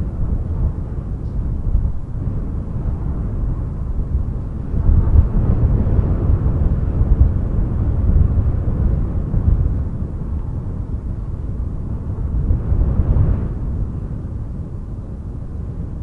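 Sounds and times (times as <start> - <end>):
strong gusty wind: 0.0 - 16.0.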